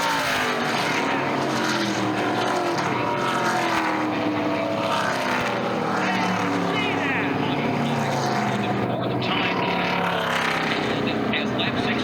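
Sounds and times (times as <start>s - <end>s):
race trucks passing at speed: 0.0s - 12.0s.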